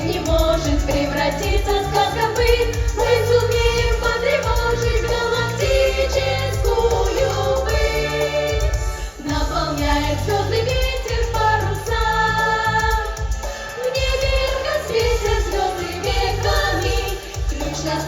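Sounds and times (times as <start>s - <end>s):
backing track with bass and beat: 0.0s - 18.0s
group singing pop song: 0.0s - 18.0s.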